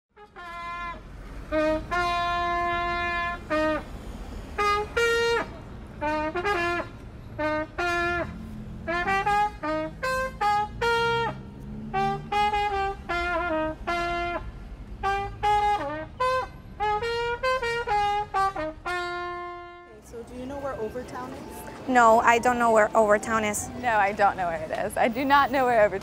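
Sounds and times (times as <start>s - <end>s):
solo trumpet melody: 0.1s - 21.8s.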